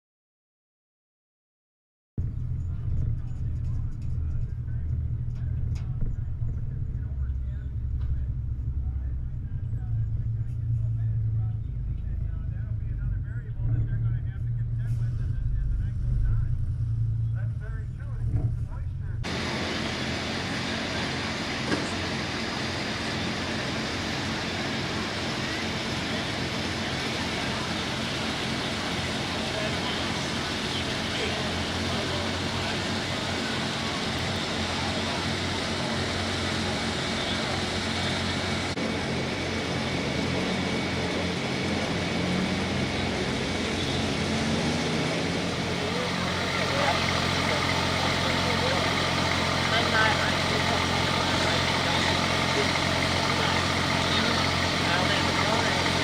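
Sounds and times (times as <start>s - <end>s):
tractor diesel engine running: 2.2s - 56.0s.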